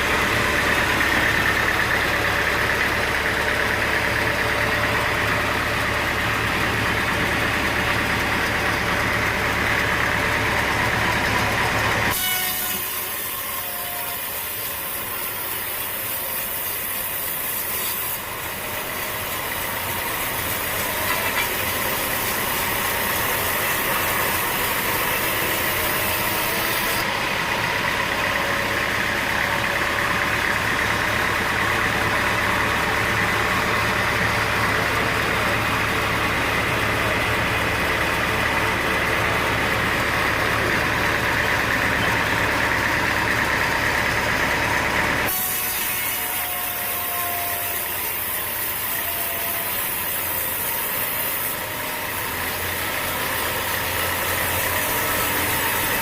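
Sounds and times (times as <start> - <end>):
engine-driven saw running: 0.0 - 56.0.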